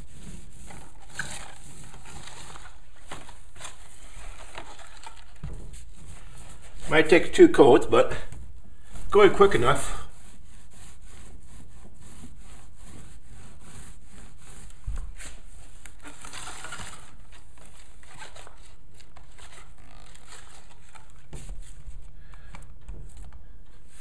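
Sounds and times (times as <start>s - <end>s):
roller in plastic paint tray: 0.0s - 6.9s, 8.3s - 21.4s
paint roller rubbing and scraping: 0.0s - 22.1s, 23.0s - 24.0s.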